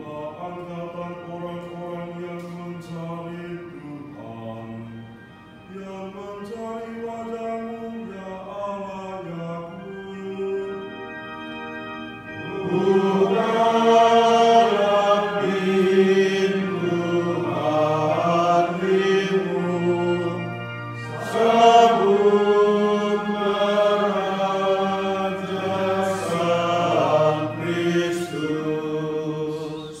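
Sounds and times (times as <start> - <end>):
chant-like psalm singing: 0.0 - 11.2, 12.1 - 30.0
low steady accompaniment: 0.0 - 30.0.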